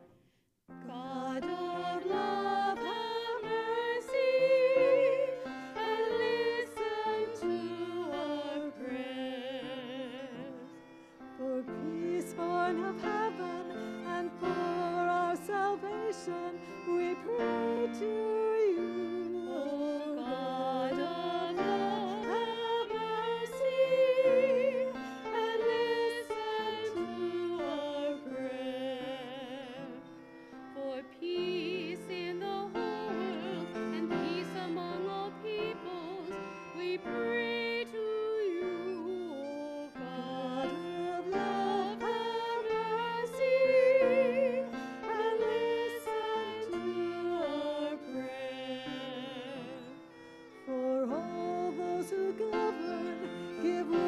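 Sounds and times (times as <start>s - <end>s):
person singing with vibrato: 0.8s - 54.0s.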